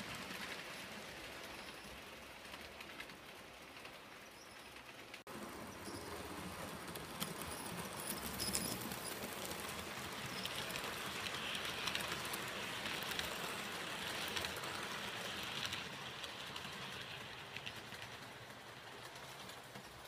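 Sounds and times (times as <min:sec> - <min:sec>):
model train wheels rattling: 0:00.0 - 0:20.0.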